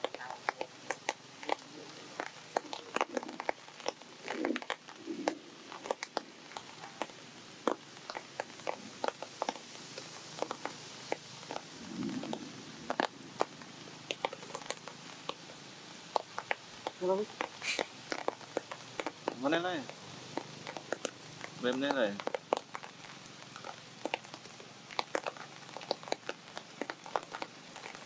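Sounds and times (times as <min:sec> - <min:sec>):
sharp clicks and crackles: 0:00.0 - 0:28.0
soft rustling: 0:00.0 - 0:28.0.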